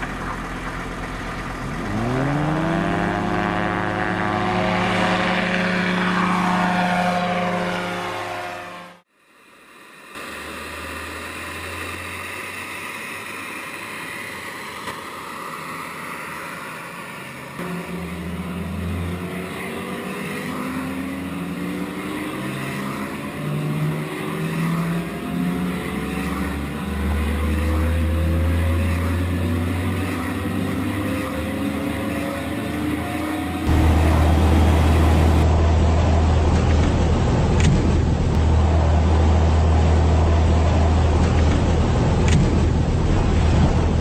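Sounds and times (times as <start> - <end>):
helicopter turbine whining: 0.0 - 44.0
microlight engine running: 0.0 - 44.0.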